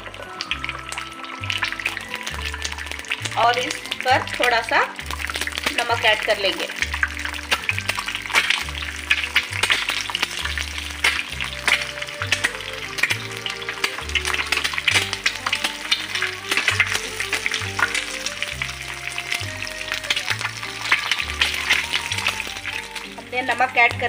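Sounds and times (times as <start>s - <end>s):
background music with bass: 0.0s - 24.0s
egg frying in oil: 0.0s - 24.0s.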